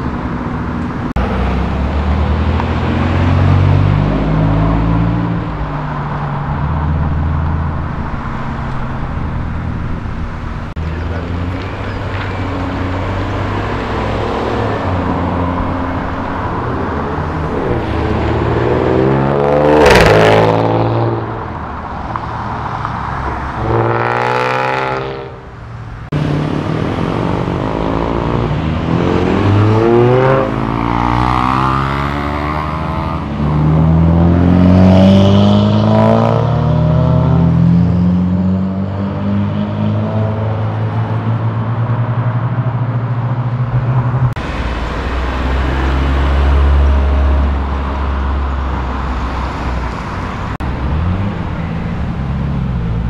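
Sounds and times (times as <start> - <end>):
cars accelerating away: 1.0 - 25.4, 26.1 - 53.0.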